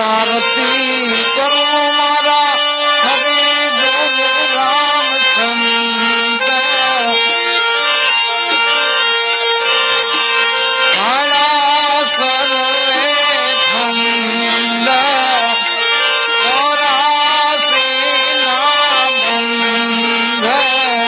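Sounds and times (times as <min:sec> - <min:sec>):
reed instrument melody: 0:00.0 - 0:21.0
steady held drone: 0:00.0 - 0:21.0.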